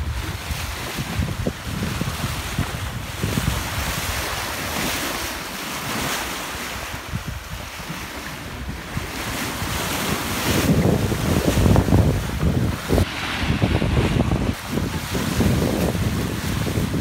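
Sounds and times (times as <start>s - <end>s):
water rushing along a hull: 0.0s - 17.0s
waves breaking against bow: 0.0s - 17.0s
wind buffeting microphone: 0.0s - 17.0s.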